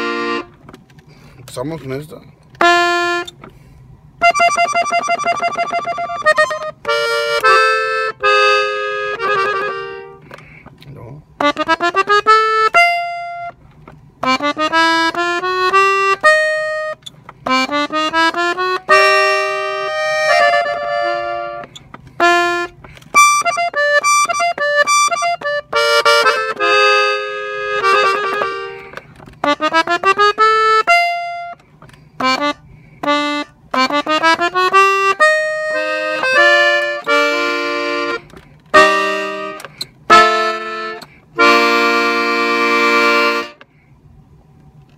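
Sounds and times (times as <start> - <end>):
button accordion melody: 0.0 - 1.3, 2.5 - 10.6, 11.3 - 43.7.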